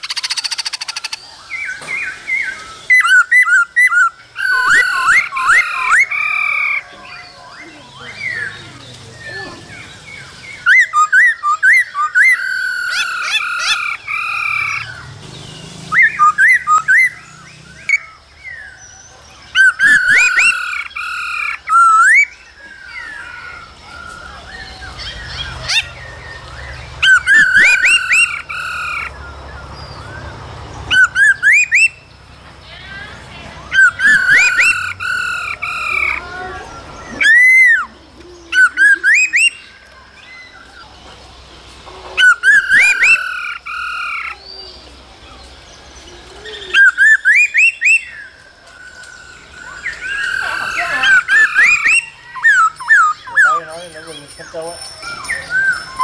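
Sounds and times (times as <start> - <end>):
bird singing warbled phrases: 0.0 - 56.0.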